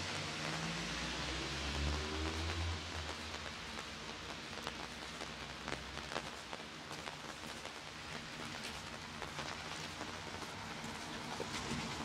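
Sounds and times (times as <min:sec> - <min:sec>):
rain on cobblestones: 0:00.0 - 0:12.0.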